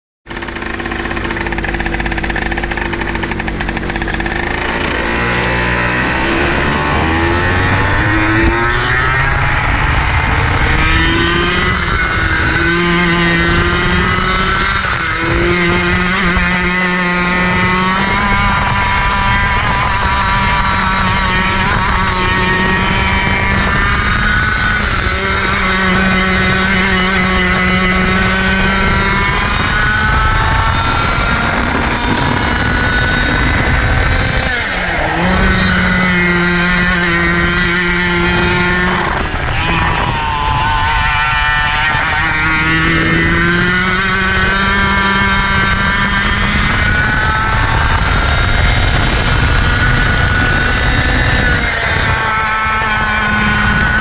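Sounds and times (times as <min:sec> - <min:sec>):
two-stroke kart engine revving: 0:00.2 - 0:54.0.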